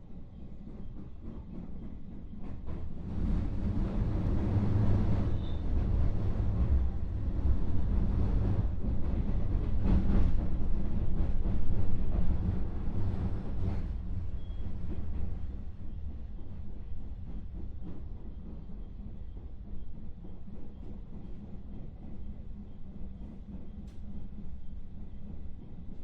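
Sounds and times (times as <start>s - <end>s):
train wheels rumbling on rail: 0.0s - 26.0s
rail clacks: 0.4s - 26.0s.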